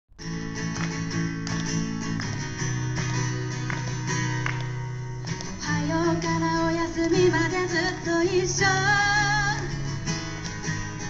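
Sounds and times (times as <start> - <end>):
strummed acoustic guitar: 0.2 - 11.0.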